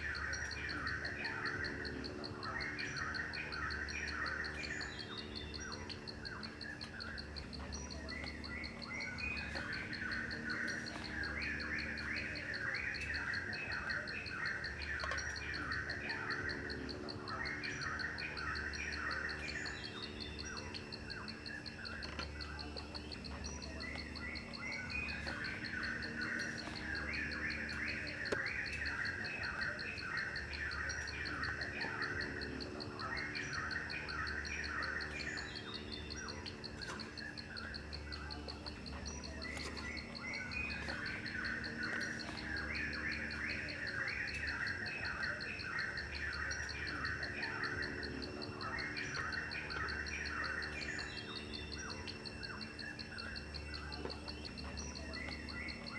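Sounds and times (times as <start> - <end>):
birds chirping: 0.0 - 55.9
insects trilling: 0.0 - 55.9.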